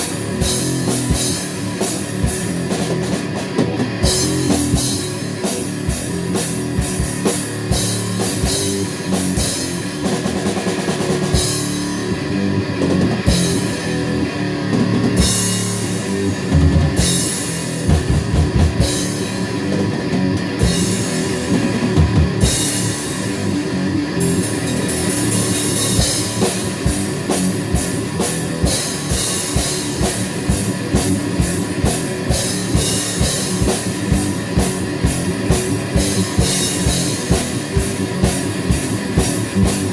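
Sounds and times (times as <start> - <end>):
heavy rock music: 0.0 - 39.9.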